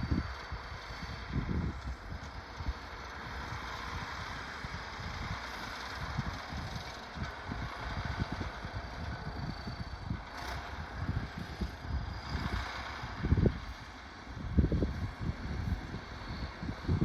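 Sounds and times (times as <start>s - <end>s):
tractor diesel engine: 0.0s - 17.0s
wind buffeting microphone: 0.0s - 17.0s.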